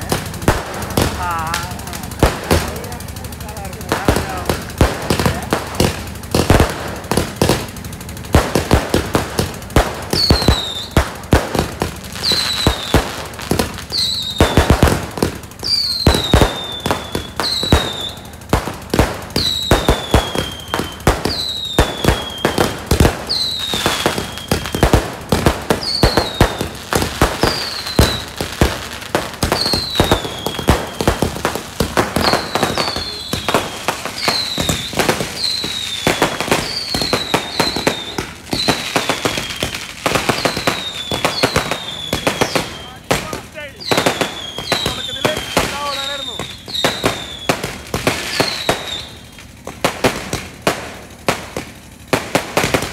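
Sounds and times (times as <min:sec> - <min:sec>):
crackling star bursts: 0:00.0 - 0:52.9
firework launch bangs: 0:00.0 - 0:52.9
falling firework whistle: 0:08.4 - 0:52.9.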